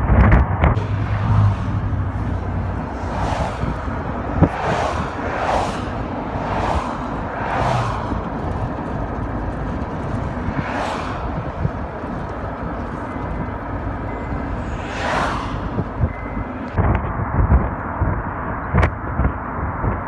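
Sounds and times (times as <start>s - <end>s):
car road and wind noise: 0.0s - 20.0s
wind whooshes: 0.0s - 20.0s.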